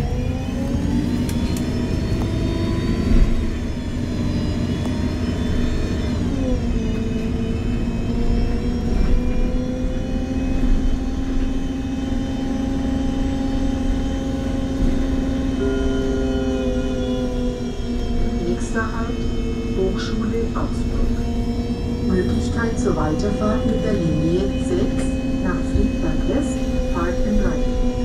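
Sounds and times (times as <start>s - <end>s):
bus gearbox whine: 0.0s - 28.0s.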